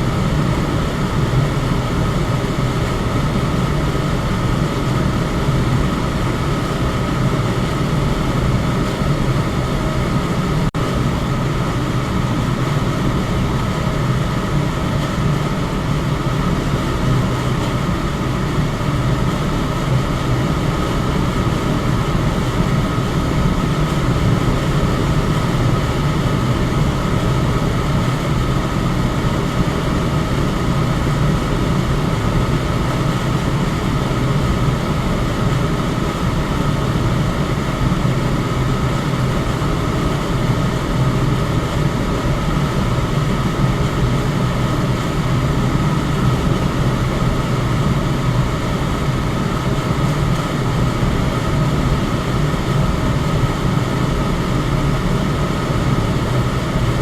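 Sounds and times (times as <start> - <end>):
electric fan running: 0.0 - 57.0.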